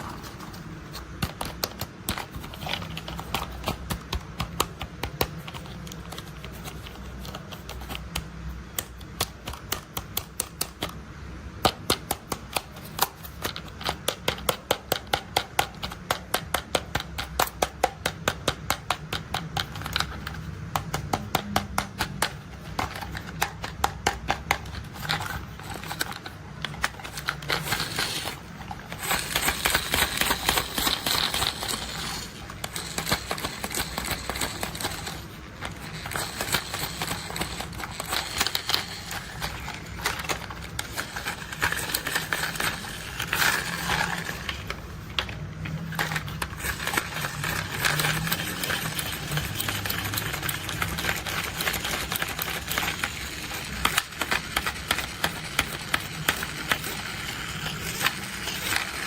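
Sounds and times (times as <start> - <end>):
toy vehicles clicking and rattling: 0.0 - 11.0, 11.6 - 59.0.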